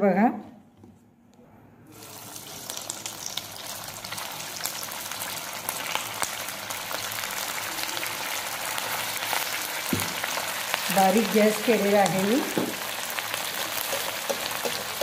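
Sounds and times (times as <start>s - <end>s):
food deep-frying in oil: 1.9s - 15.0s.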